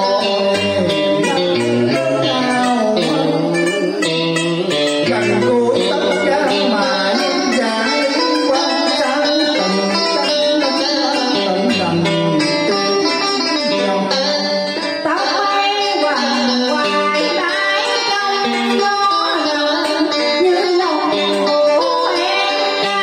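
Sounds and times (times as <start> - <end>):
backing track: 0.0 - 23.0
person singing through pa: 0.0 - 23.0
plucked string instrument: 0.0 - 23.0.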